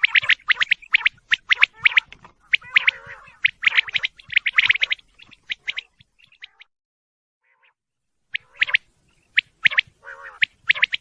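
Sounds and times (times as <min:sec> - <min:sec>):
quail calling: 0:00.0 - 0:06.7, 0:07.4 - 0:11.0.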